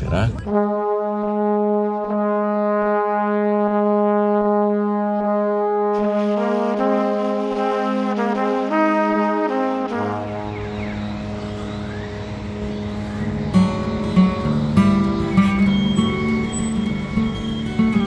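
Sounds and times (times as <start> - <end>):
higher melody notes: 0.5 - 18.0.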